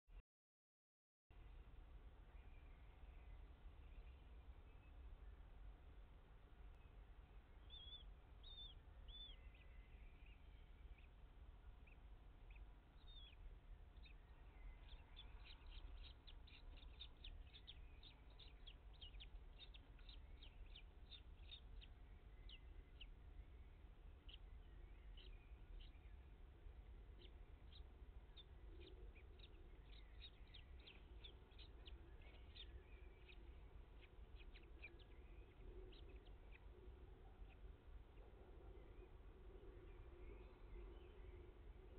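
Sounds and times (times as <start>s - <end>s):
steady low hum: 1.4s - 41.9s.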